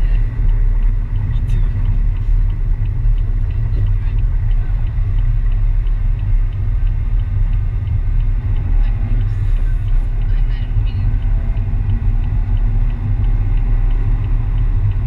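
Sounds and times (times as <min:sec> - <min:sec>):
car driving interior rumble: 0:00.0 - 0:15.0
faint regular ticking: 0:00.0 - 0:15.0.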